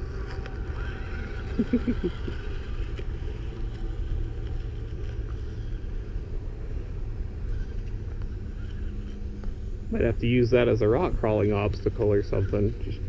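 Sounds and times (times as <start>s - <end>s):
faint electric motor whine: 0.0s - 13.0s
low rumble of trimmer blade: 0.0s - 13.0s.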